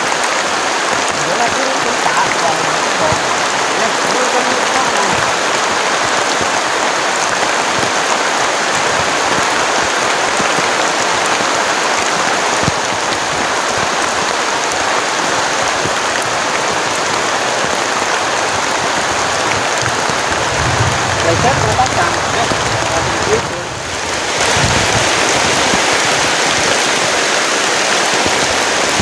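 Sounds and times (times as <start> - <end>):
heavy rain in forest: 0.0 - 29.0.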